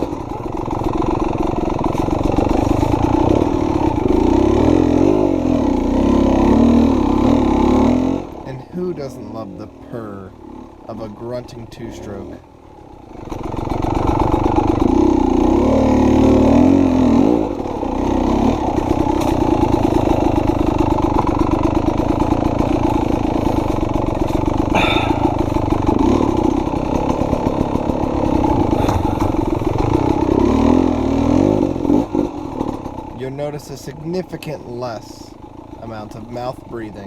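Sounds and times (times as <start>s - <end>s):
dirt bike engine revving: 0.0s - 12.4s, 13.1s - 37.0s.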